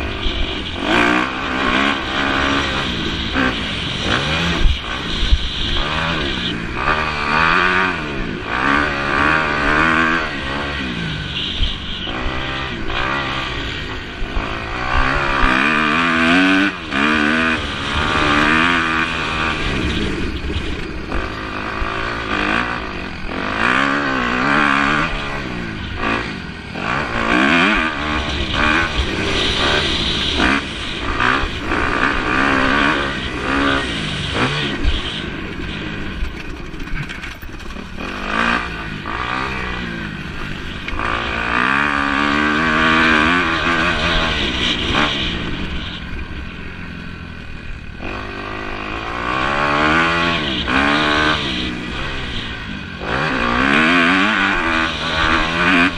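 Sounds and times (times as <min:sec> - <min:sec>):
motocross motorcycles revving: 0:00.0 - 0:55.9.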